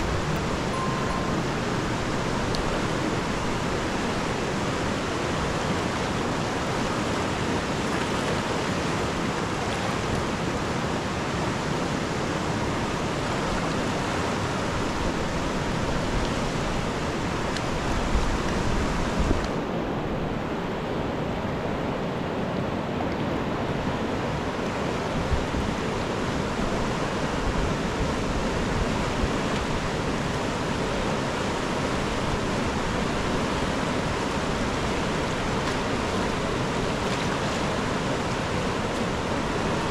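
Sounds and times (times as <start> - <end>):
fast-flowing river rushing: 0.0 - 39.9.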